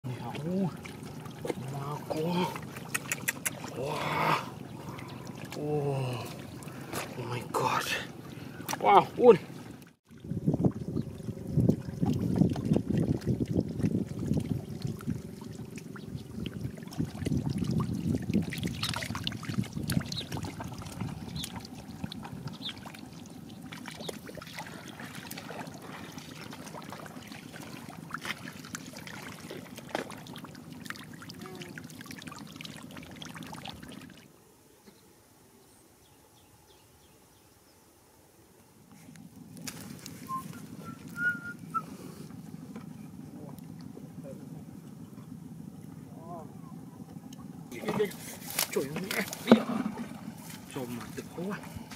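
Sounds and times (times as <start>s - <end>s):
fish splashing in shallow water: 0.0s - 34.4s, 39.2s - 44.0s, 47.1s - 51.9s.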